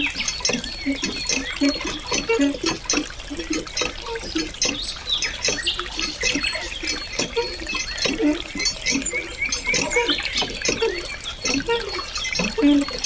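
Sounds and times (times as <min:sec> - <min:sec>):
water trickling into a pool: 0:00.0 - 0:13.0.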